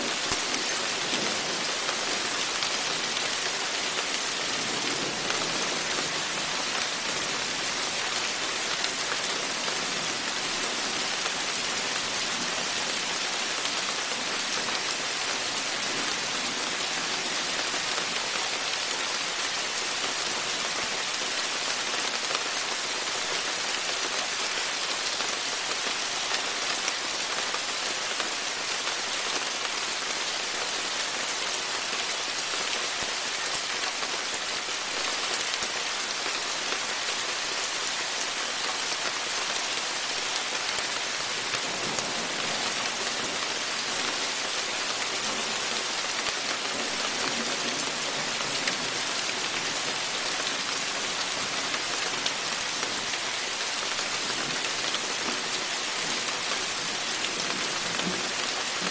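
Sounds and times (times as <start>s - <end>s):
rain falling steadily: 0.0s - 58.9s.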